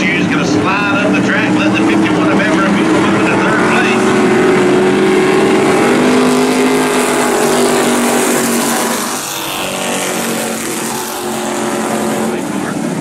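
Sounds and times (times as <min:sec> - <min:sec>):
cars passing by: 0:00.0 - 0:13.0
race car engines droning: 0:00.0 - 0:13.0.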